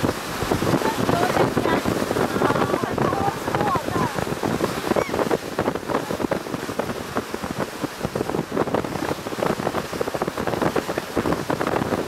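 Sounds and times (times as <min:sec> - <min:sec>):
boat: 0:00.0 - 0:12.0
water: 0:00.0 - 0:12.0
wind buffeting microphone: 0:00.0 - 0:12.0.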